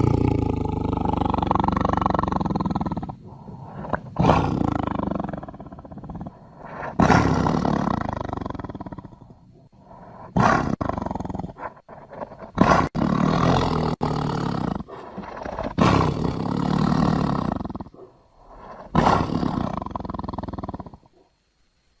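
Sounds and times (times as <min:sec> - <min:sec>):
big cat roaring: 0:00.0 - 0:21.2.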